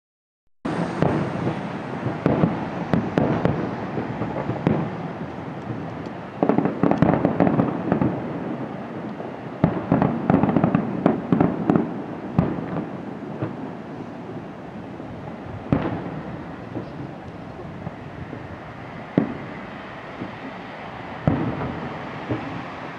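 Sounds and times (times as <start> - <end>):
firework shells bursting: 0.7 - 14.5, 15.7 - 22.9
crackles of fireworks: 0.7 - 22.9.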